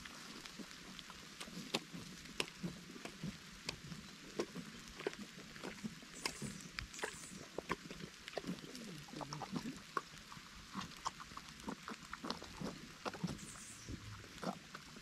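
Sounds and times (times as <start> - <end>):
donkey chewing watermelon: 0.0 - 15.0.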